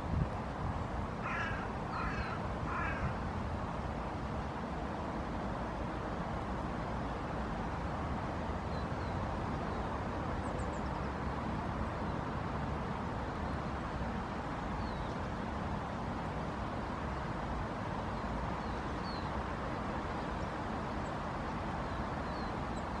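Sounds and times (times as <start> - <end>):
distant city traffic: 0.0 - 23.0.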